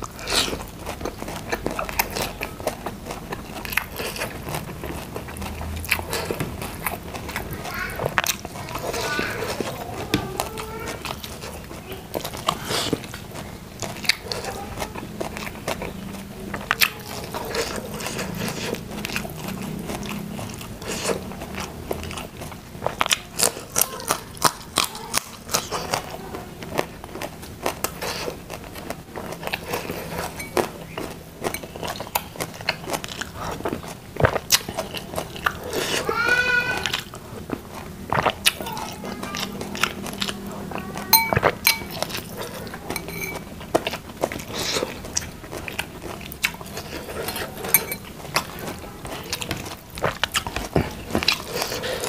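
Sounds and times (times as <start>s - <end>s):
crunching and chewing raw vegetables: 0.0s - 52.0s.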